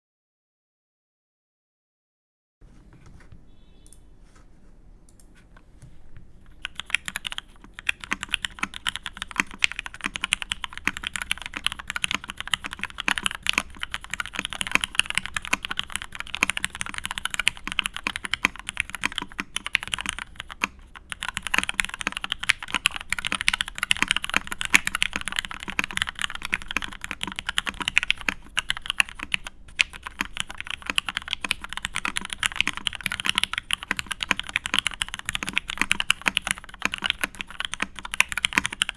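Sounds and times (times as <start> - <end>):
mechanical keyboard typing: 6.5 - 38.9.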